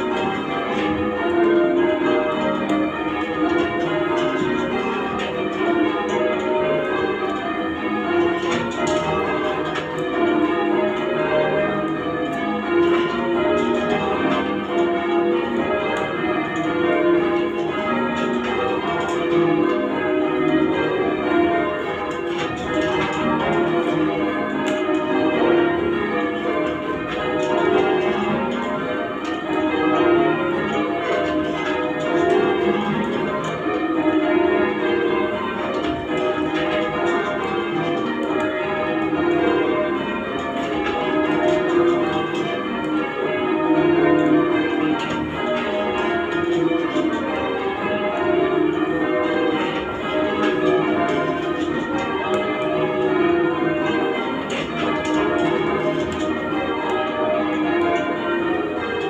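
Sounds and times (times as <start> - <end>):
church bells change ringing: 0.0 - 59.0.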